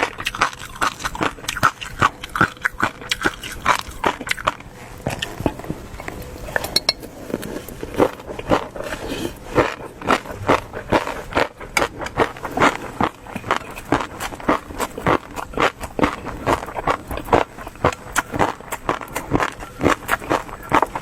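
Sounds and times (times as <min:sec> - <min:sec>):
wet chewing and mouth smacks: 0:00.0 - 0:08.9, 0:09.6 - 0:21.0.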